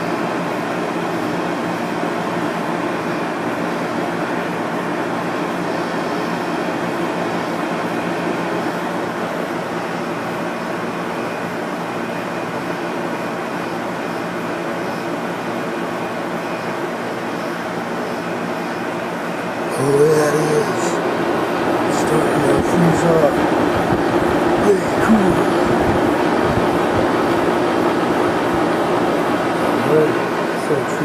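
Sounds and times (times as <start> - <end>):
air conditioner hum and airflow: 0.0 - 31.0.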